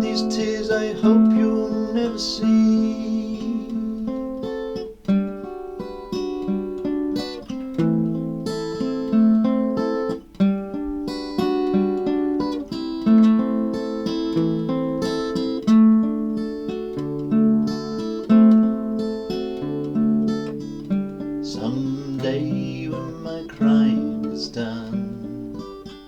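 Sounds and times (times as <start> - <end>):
guitar playing melody: 0.0 - 26.0.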